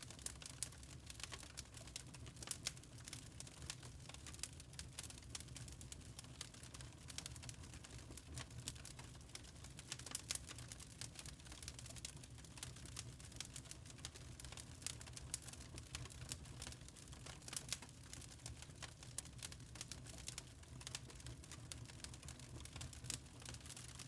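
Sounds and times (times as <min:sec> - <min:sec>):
burning charcoal crackling: 0:00.0 - 0:24.0.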